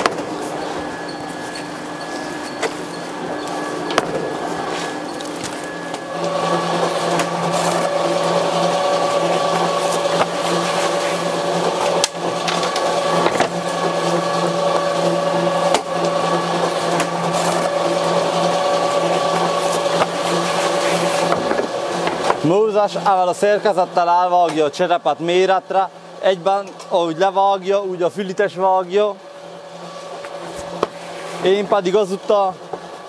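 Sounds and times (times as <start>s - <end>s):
conveyor belt motor hum: 0.0s - 33.0s.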